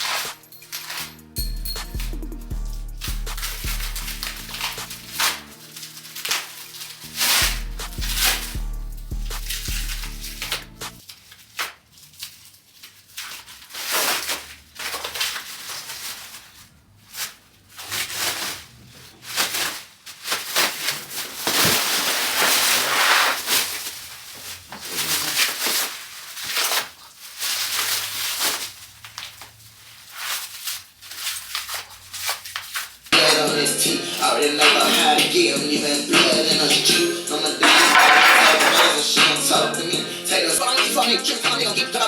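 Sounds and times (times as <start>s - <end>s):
scraping and crinkling: 0.0s - 2.2s, 2.9s - 35.6s, 36.2s - 39.6s.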